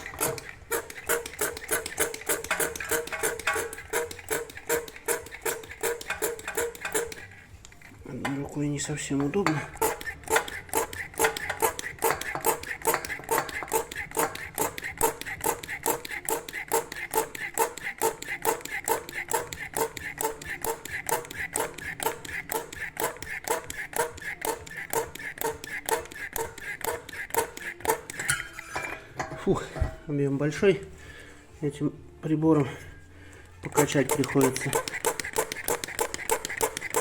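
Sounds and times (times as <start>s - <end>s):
hand vacuum pump strokes: 0.0s - 30.1s, 33.6s - 37.0s.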